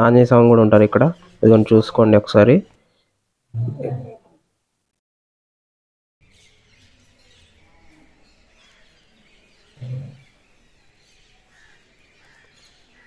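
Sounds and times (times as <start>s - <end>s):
birds chirping: 0.0s - 4.2s, 6.2s - 13.0s.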